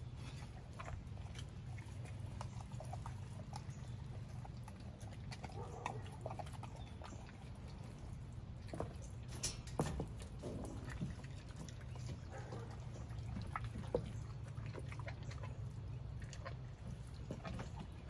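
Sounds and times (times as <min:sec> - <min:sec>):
dog chewing and tearing meat: 0:00.0 - 0:18.0.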